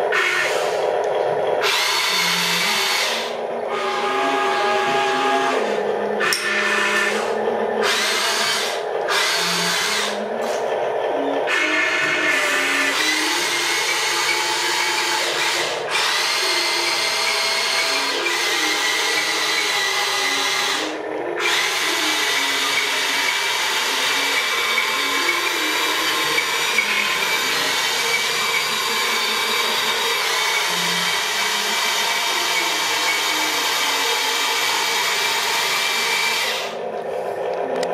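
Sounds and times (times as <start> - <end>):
toy excavator motors whirring: 0.0 - 37.9.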